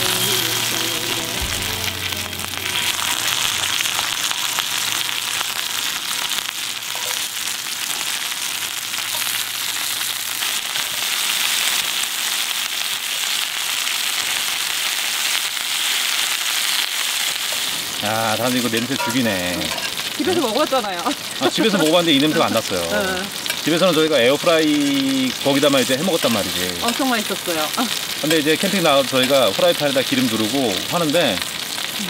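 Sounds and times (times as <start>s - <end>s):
chicken frying in hot oil: 0.0s - 32.0s.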